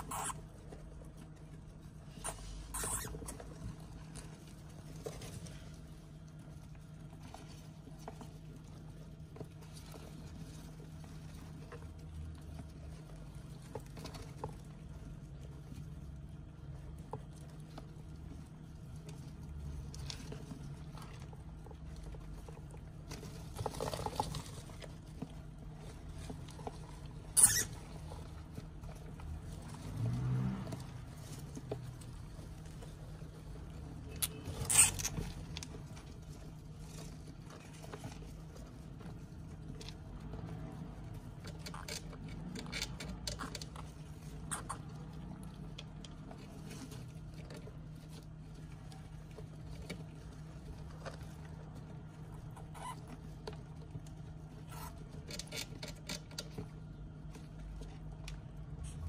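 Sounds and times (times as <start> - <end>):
hamsters rustling in bedding: 0.0 - 59.0.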